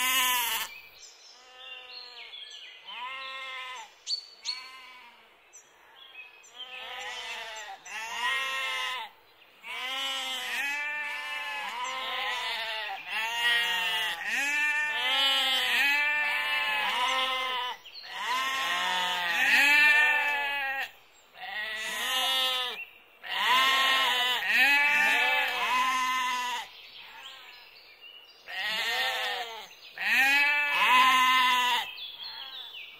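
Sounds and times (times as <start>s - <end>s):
sheep bleating: 0.0s - 0.7s, 2.8s - 3.9s, 4.5s - 5.2s, 6.6s - 27.5s, 28.5s - 32.6s.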